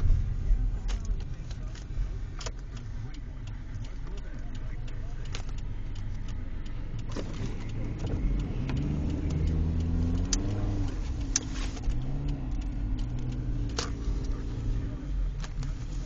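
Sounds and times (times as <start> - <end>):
sharp clicks and knocks: 0.0 - 15.8
car engine from inside cabin: 0.0 - 16.0.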